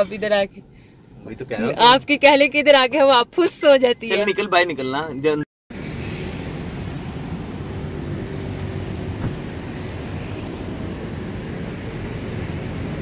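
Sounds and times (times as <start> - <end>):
roadside traffic: 0.0 - 13.0.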